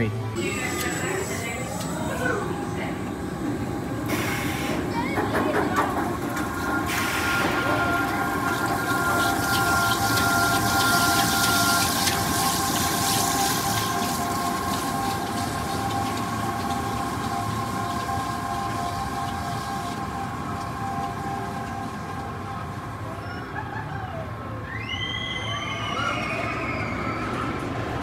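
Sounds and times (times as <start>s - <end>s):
sustained whining tones: 0.0s - 24.6s
roller coaster rumble on track: 0.0s - 28.0s.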